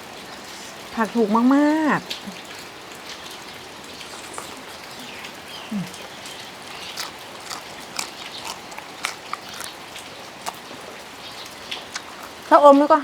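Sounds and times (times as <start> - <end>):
sharp drips and taps: 0.0 - 13.0.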